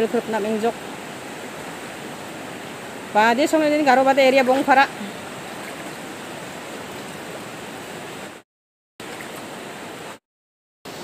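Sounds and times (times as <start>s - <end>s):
floodwater rushing: 0.0s - 8.4s, 9.0s - 10.2s.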